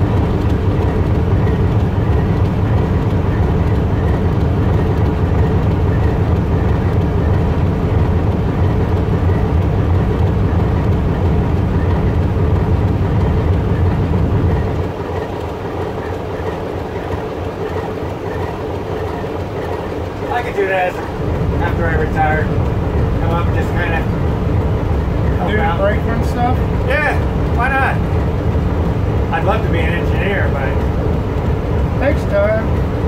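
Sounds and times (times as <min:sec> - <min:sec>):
locomotive engine rumbling: 0:00.0 - 0:33.0.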